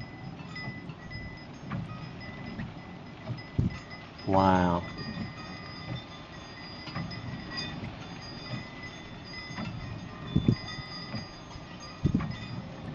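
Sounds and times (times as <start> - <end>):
loud low wind buffet: 0.0 - 12.9
wind chimes ringing: 0.0 - 12.9
wind rumbling on microphone: 0.0 - 12.9.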